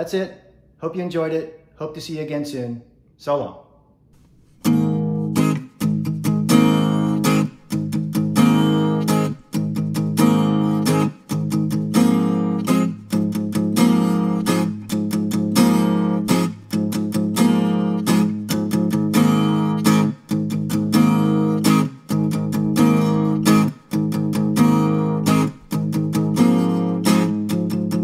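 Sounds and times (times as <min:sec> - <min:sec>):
guitar strumming chords: 0:04.6 - 0:28.0.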